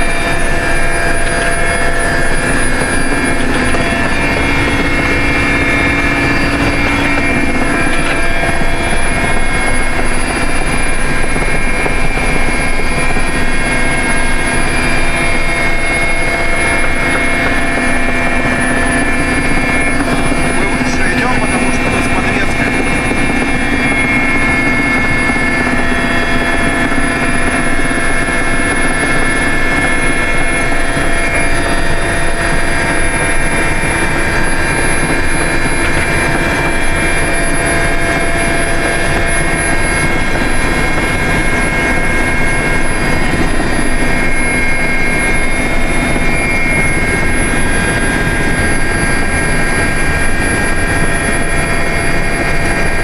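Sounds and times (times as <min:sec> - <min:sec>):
helicopter engine drone: 0:00.0 - 0:53.0
high whining tones: 0:00.0 - 0:53.0.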